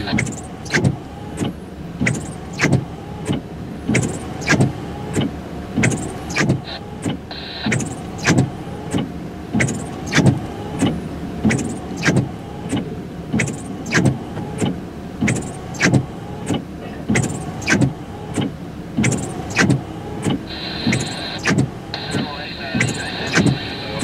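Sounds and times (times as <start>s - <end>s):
windshield wipers squeaking: 0.0s - 24.0s.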